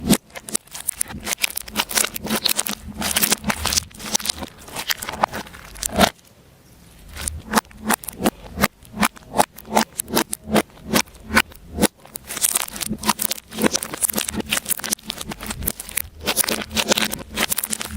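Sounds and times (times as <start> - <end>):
slime crackling and popping: 0.0 - 6.2, 7.0 - 17.9.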